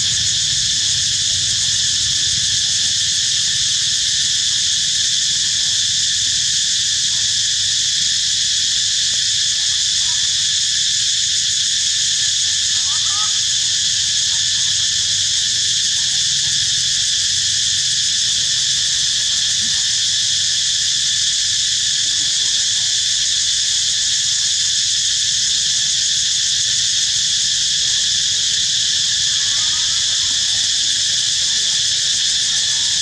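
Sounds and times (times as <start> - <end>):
shrill insect chorus: 0.0 - 33.0.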